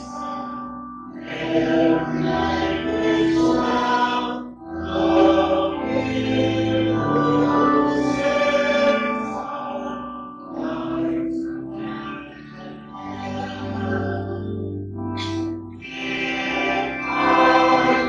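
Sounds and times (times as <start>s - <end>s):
slow hymn music of held chords: 0.0s - 18.0s.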